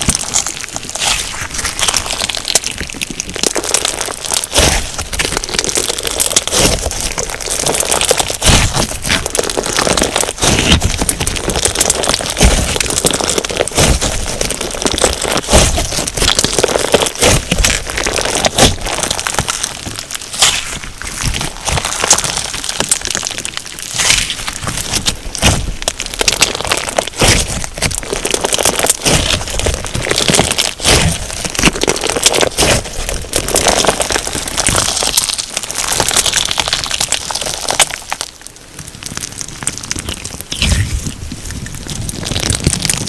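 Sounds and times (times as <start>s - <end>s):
crunchy slime crackling and popping: 0.0s - 43.0s.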